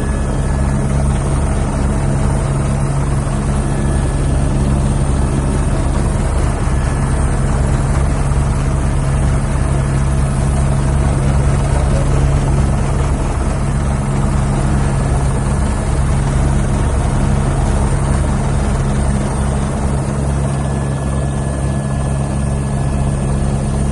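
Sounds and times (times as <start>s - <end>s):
helicopter engine drone: 0.0s - 23.9s
helicopter rotor beating: 0.0s - 23.9s.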